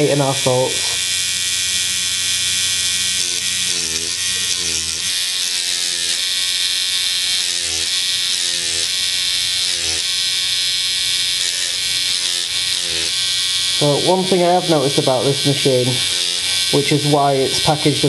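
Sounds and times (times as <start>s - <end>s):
tattoo machine buzzing: 0.0s - 18.0s.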